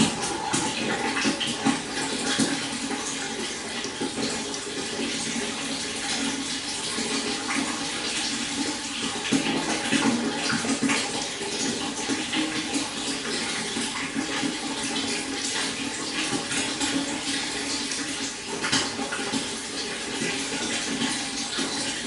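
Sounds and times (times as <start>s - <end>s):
stream water bubbling over stones: 0.0s - 22.0s.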